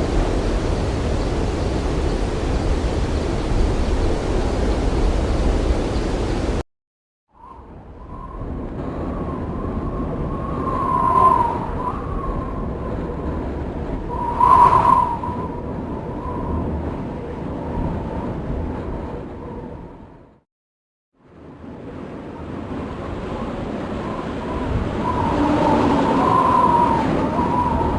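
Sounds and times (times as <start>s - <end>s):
strong wind rumbling: 0.0s - 6.6s, 7.3s - 20.4s, 21.2s - 27.9s.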